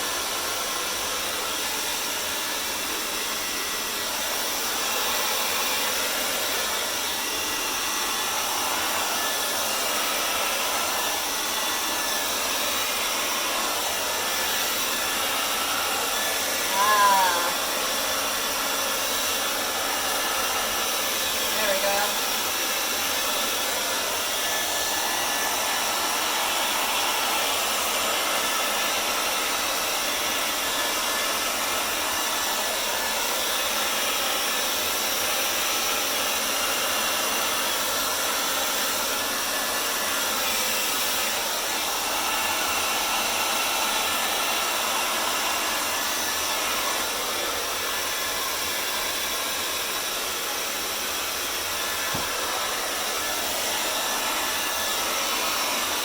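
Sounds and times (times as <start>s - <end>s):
hairdryer running: 0.0s - 56.0s.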